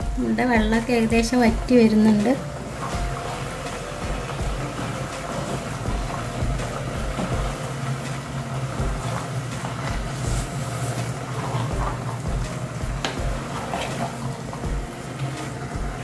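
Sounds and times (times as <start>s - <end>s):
steady low hum: 0.0s - 16.0s
spatula scraping pan: 1.3s - 16.0s.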